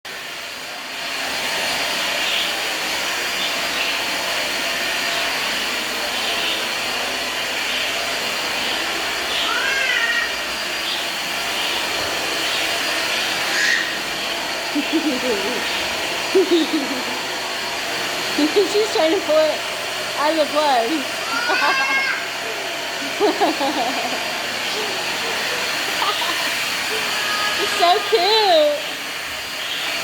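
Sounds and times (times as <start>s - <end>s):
vacuum cleaner running: 0.1s - 30.0s.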